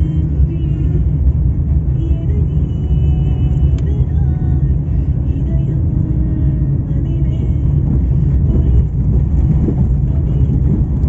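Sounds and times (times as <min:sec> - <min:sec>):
vehicle driving with road noise: 0:00.0 - 0:11.0.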